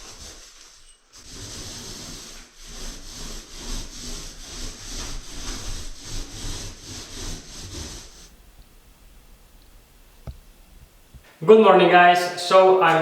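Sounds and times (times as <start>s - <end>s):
rhythmic strokes on wood: 0.0s - 11.6s.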